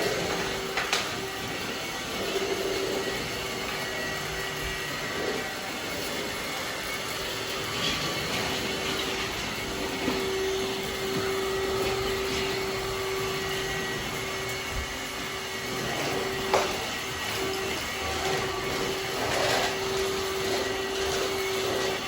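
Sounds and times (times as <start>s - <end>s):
vacuum cleaner knocking: 0.0s - 5.6s, 7.4s - 22.0s
vacuum cleaner running: 0.0s - 22.0s.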